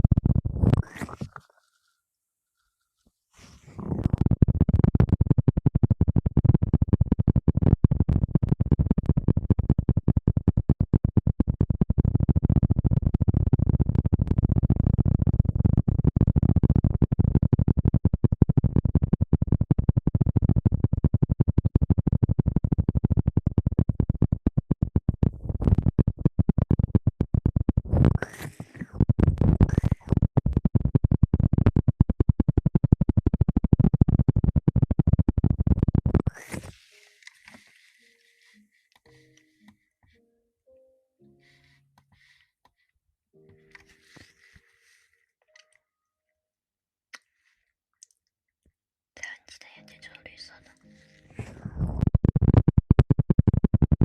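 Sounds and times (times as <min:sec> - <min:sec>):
rustling and scratching on microphone: 0:00.0 - 0:02.0, 0:02.6 - 0:40.2, 0:41.2 - 0:45.7, 0:49.2 - 0:54.0.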